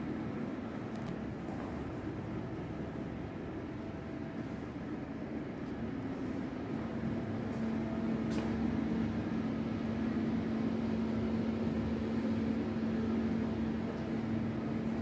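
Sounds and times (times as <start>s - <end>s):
air-handling fan hum: 0.0s - 15.0s.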